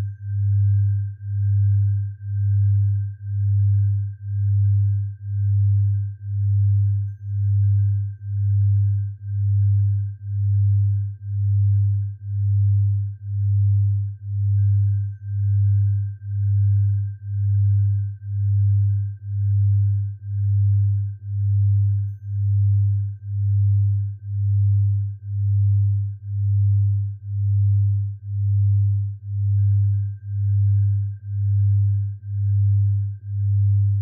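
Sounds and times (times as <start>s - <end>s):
faint steady high tone: 0.0s - 34.0s
low pulsing sine tone: 0.0s - 34.0s.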